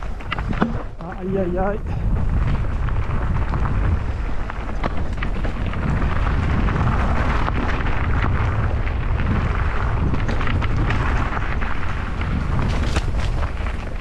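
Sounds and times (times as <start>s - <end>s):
bike clicks and rattles: 0.0s - 14.0s
tyre noise: 0.0s - 14.0s
wind buffeting microphone: 0.0s - 14.0s.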